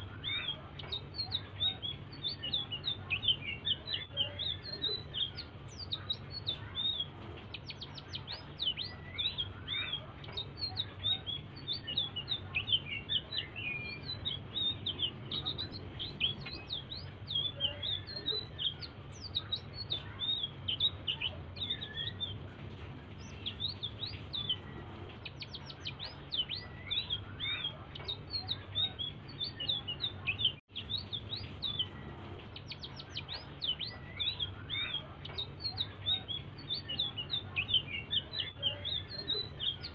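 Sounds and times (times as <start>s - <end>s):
songbird singing high chirps: 0.0s - 22.4s, 23.2s - 39.9s
low steady hum: 0.0s - 39.9s.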